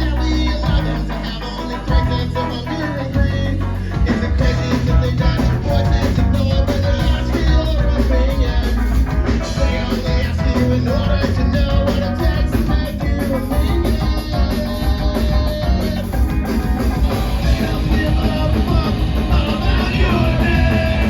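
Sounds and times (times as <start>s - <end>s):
live punk rock band: 0.0s - 21.0s.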